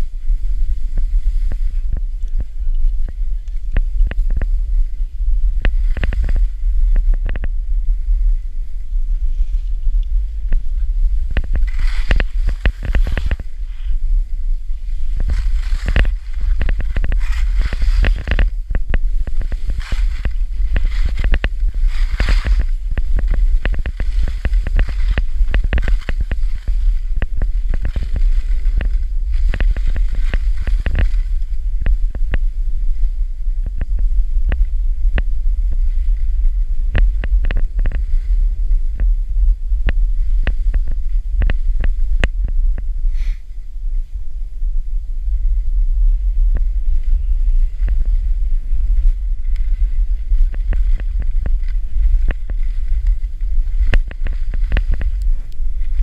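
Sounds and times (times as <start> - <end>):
skis scraping on snow: 0.0 - 7.2, 7.8 - 34.1, 35.3 - 42.1, 43.0 - 43.6, 46.4 - 56.0
wind buffeting microphone: 0.0 - 56.0.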